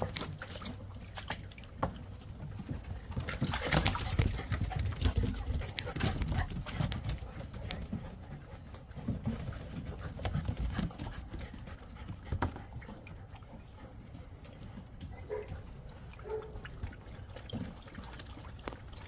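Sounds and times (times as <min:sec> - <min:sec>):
puppy paws clicking on wooden deck: 0:00.0 - 0:16.6
water sloshing in a pool: 0:00.0 - 0:19.0.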